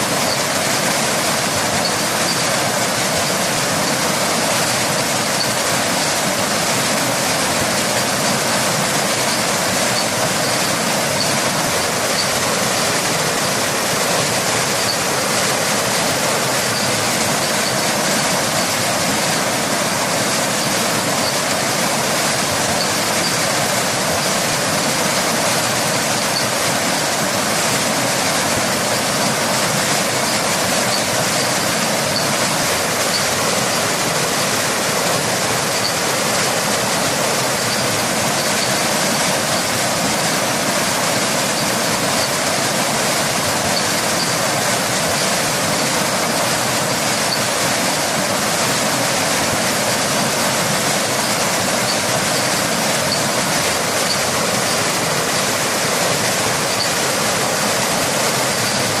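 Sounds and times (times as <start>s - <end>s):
rushing falling water: 0.0s - 59.0s.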